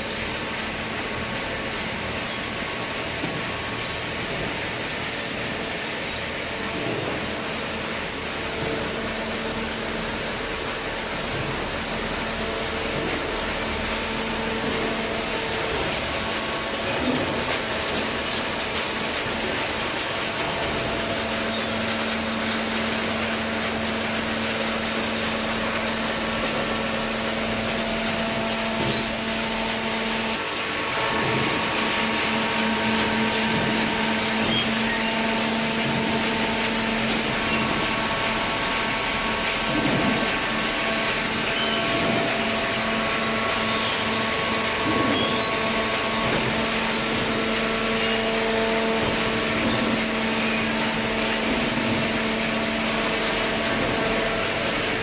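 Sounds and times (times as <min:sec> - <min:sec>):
hydraulic unit hum: 0:00.0 - 0:55.0.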